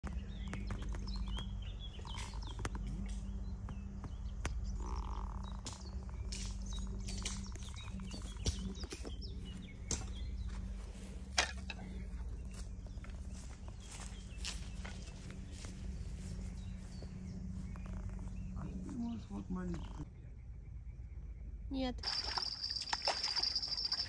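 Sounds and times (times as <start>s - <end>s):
low hum: 0.0s - 24.0s
small birds chirping: 0.0s - 24.0s.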